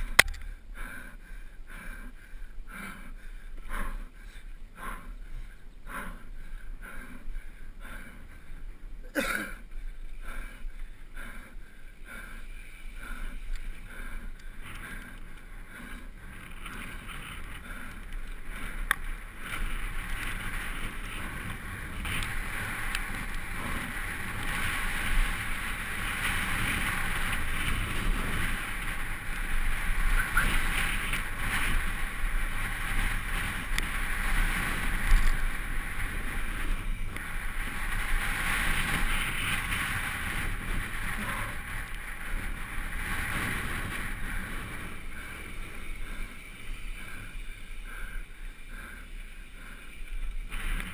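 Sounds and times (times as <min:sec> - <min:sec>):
bike tyres and frame rattling: 0:03.2 - 0:50.9
wind rushing over microphone: 0:10.1 - 0:50.9.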